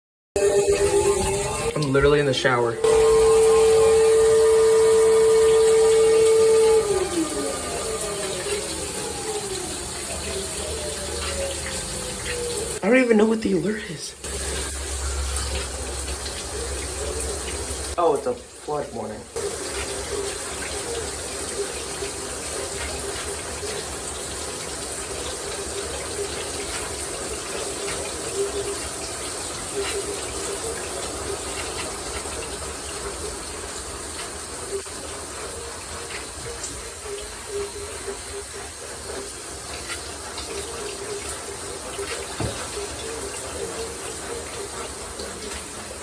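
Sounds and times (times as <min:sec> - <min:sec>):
shower water spraying: 0:00.4 - 0:46.0.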